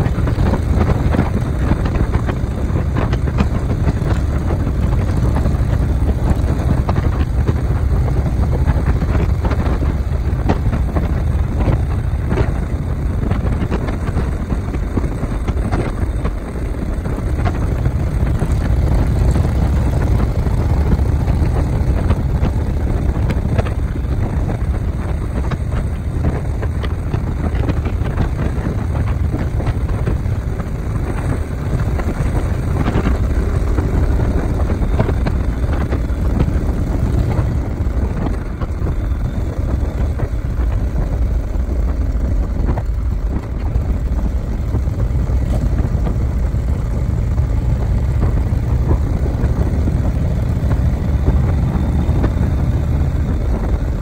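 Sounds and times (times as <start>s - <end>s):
road rumble: 0.0s - 54.0s
vehicle engine: 0.0s - 54.0s
wind noise: 0.0s - 54.0s.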